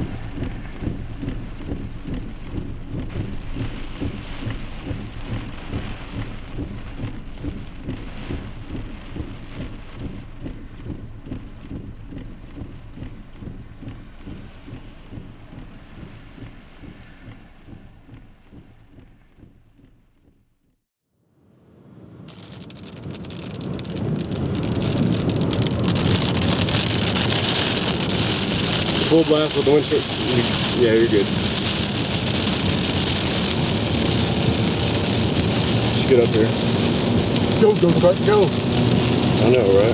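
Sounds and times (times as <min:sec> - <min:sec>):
rain drumming on a vehicle: 0:00.0 - 0:19.2, 0:22.3 - 0:39.9
low thumps: 0:00.0 - 0:20.7, 0:22.3 - 0:39.9.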